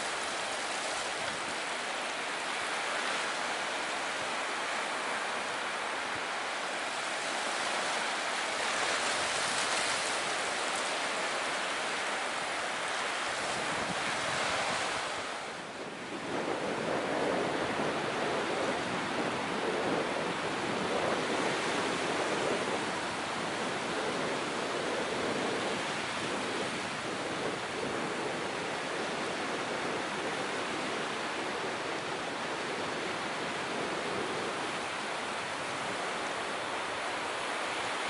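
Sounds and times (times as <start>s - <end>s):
waves washing up a beach: 0.0s - 38.0s.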